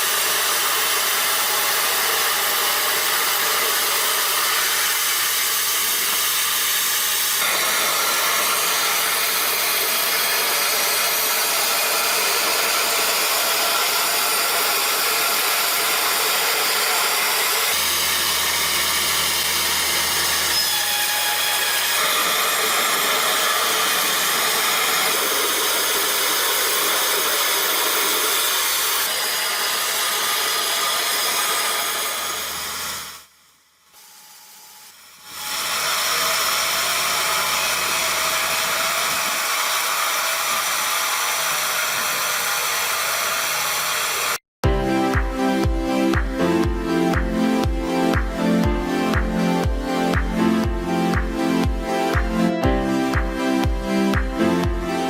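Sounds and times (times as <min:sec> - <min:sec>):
machine running: 0:00.0 - 0:33.3, 0:34.0 - 0:55.0.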